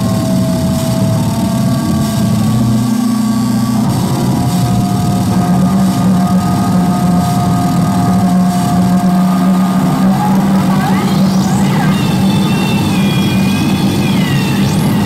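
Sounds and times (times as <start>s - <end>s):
drone of low buzzing tones: 0.0s - 15.0s
thin high tone: 0.0s - 15.0s.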